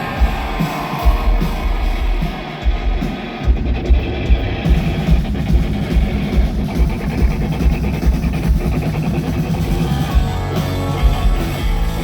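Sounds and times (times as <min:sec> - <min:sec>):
bass and kick drum: 0:00.0 - 0:12.0
electric guitar: 0:00.0 - 0:12.0
live rock band: 0:00.0 - 0:12.0.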